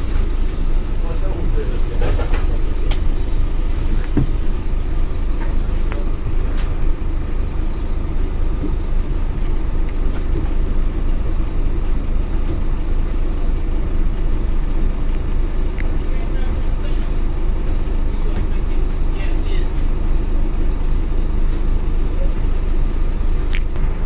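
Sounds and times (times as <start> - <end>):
bus diesel engine droning: 0.0 - 24.0
light rattles in bus interior: 0.0 - 24.0.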